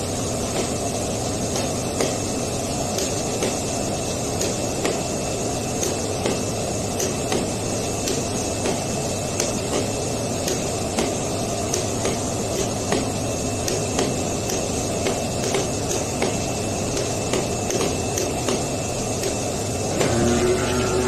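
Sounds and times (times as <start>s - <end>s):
cutting plotter whirring hum: 0.0s - 21.0s.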